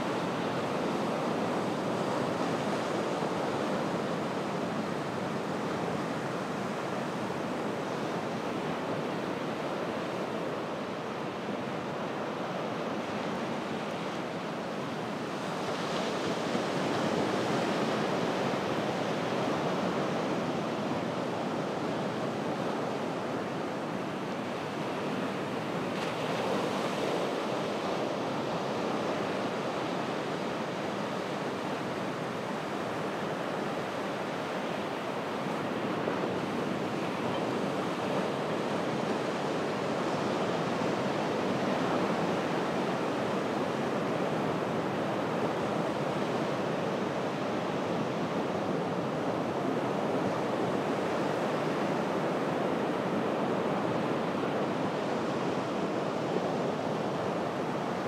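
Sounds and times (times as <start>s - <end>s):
ocean surf on beach: 0.0s - 58.0s.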